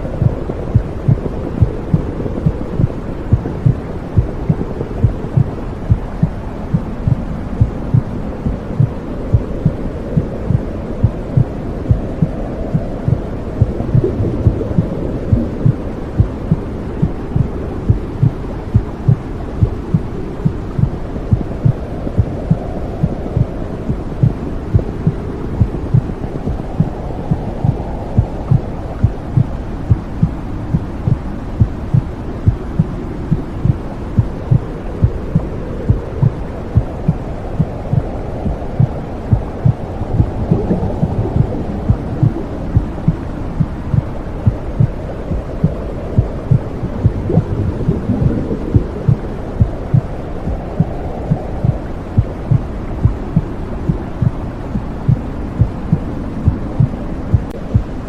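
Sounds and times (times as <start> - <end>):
muffled whooshing noise: 0.0 - 58.0
heartbeat thuds: 0.2 - 58.0.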